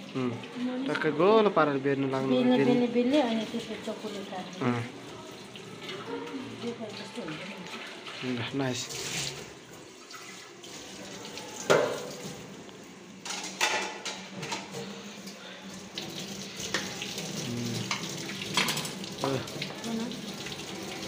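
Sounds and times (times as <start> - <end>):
kitchen tap running: 0.0 - 1.4, 2.0 - 21.0.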